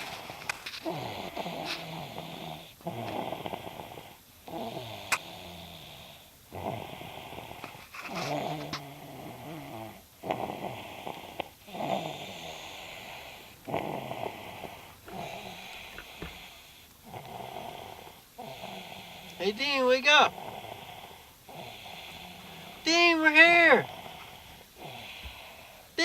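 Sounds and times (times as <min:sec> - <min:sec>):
person snoring with rattle: 0:00.0 - 0:26.0.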